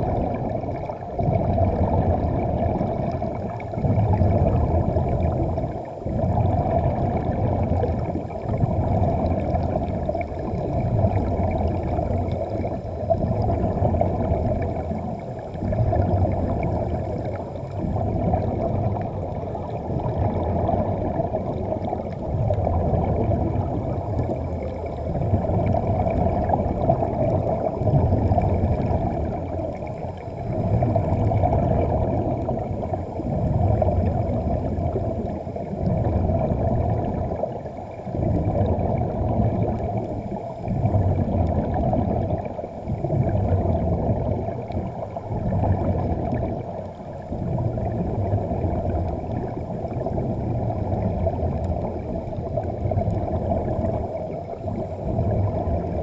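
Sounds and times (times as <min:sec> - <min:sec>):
muffled underwater rushing and bubbling: 0:00.0 - 0:56.0.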